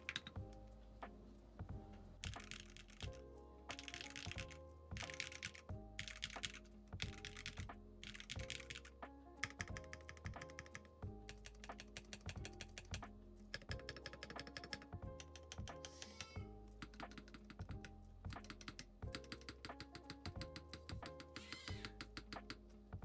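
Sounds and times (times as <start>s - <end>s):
mechanical keyboard typing: 0.0s - 0.4s, 2.2s - 17.7s, 18.3s - 22.6s
background music: 0.0s - 23.0s.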